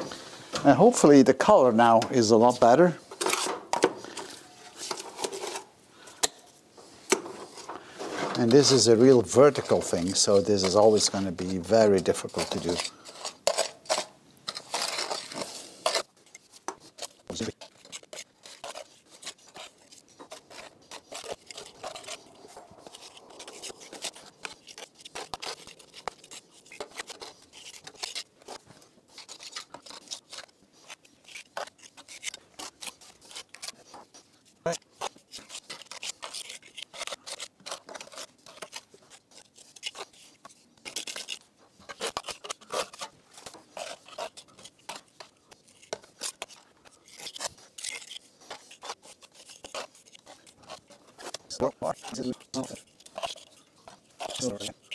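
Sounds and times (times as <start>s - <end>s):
trowel scraping mortar on brick: 1.0s - 5.7s, 7.2s - 54.9s.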